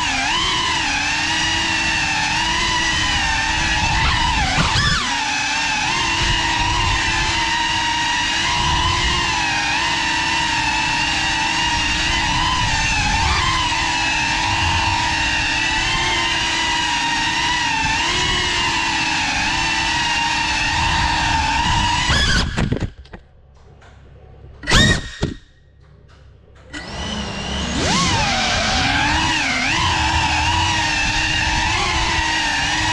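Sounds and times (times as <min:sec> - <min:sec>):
drone motors whining: 0:00.0 - 0:32.9.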